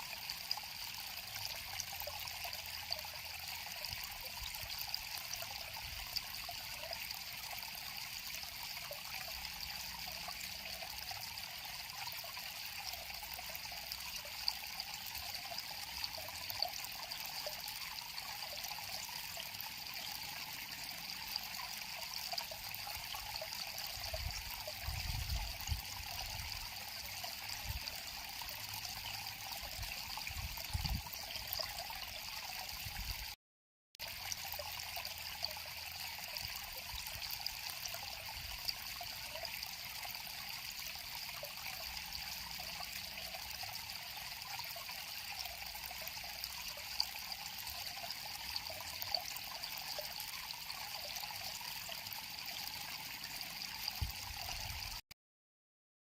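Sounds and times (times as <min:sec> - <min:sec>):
river water trickling: 0:00.0 - 0:33.4, 0:34.0 - 0:55.1.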